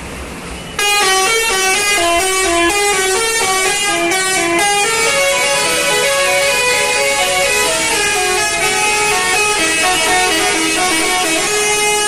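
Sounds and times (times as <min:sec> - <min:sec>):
bus musical horn melody: 0:00.7 - 0:12.0.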